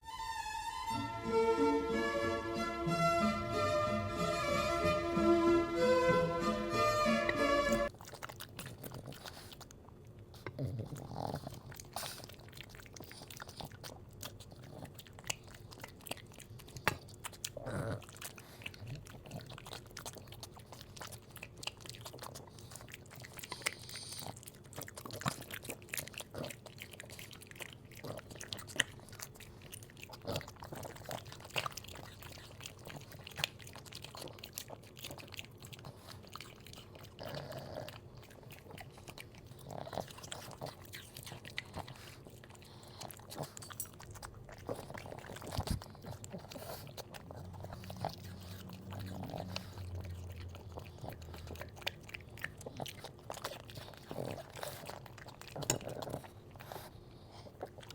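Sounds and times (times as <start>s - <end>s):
dog chewing and crunching food: 7.4s - 57.9s.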